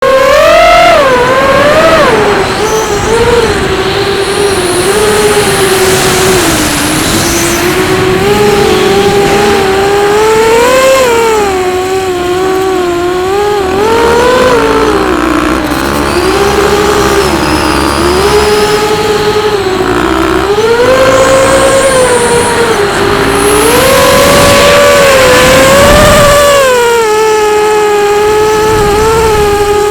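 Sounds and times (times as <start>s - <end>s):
drone propellers buzzing: 0.0s - 29.9s.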